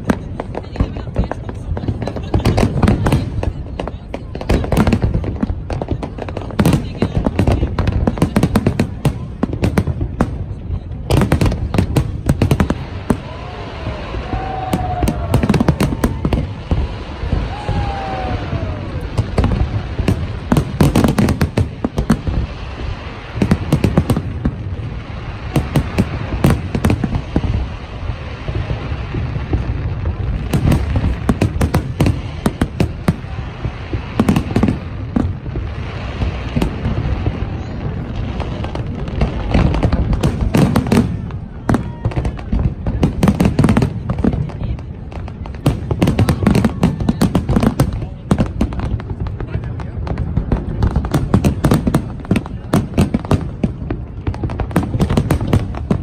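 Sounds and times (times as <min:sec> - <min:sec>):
firework shells booming: 0:00.0 - 0:56.0
fireworks crackling: 0:00.0 - 0:56.0.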